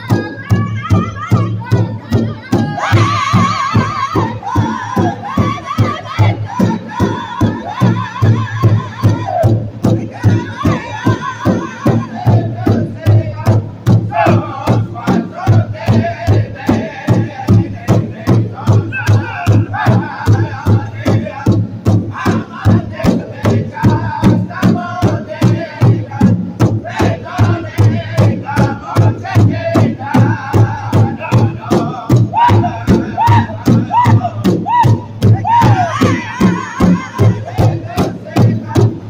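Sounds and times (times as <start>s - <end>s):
large drum struck in unison: 0.0s - 39.0s
men singing high: 0.0s - 39.0s.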